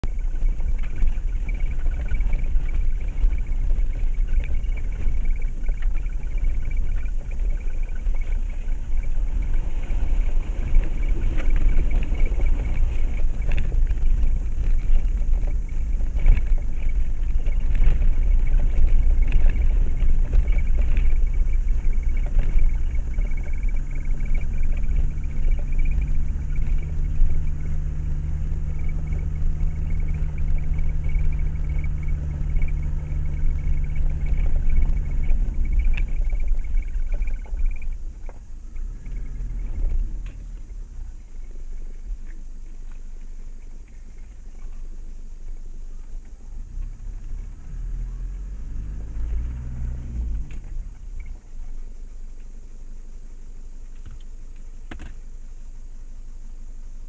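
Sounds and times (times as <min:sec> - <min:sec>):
vehicle engine running low: 0:00.0 - 0:57.0.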